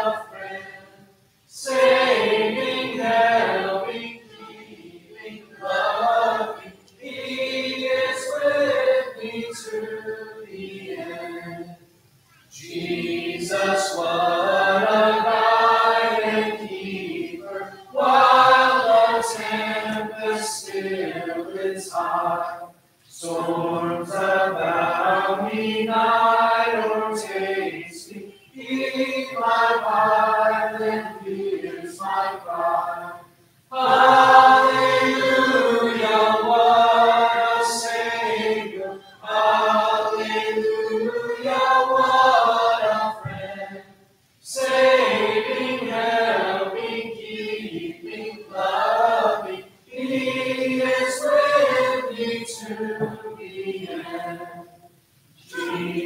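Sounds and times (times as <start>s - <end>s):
congregation singing a hymn: 0.0s - 56.0s.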